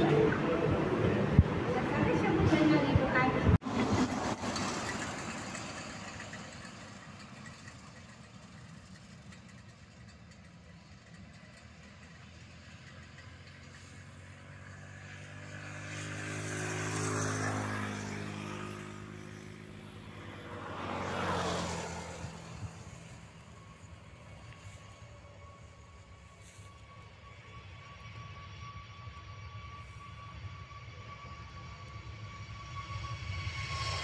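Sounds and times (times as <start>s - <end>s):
engine noise: 0.0s - 34.0s.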